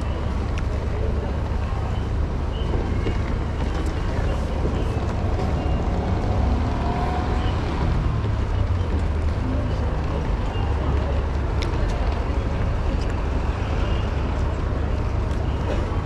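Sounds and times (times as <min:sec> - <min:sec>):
faint voices: 0:00.0 - 0:16.0
traffic rumble: 0:00.0 - 0:16.0.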